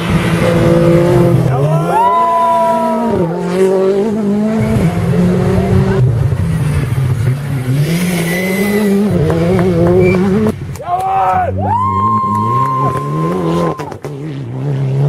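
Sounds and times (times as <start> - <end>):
car engine revving: 0.0 - 10.8, 11.4 - 15.0.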